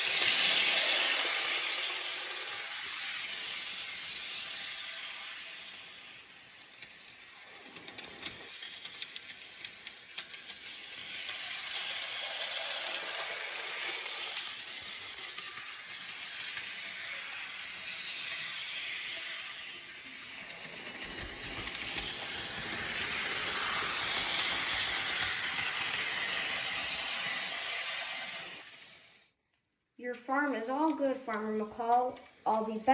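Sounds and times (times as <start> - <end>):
wheels clicking over rail joints: 0.0 - 29.0
model train motor whirring: 0.0 - 29.4.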